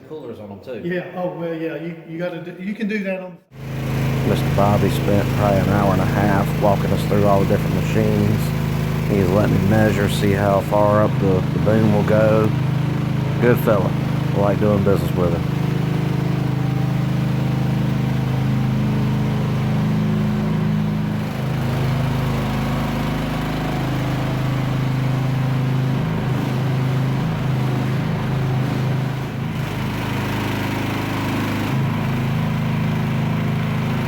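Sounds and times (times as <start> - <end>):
mini excavator engine running: 3.6 - 34.0.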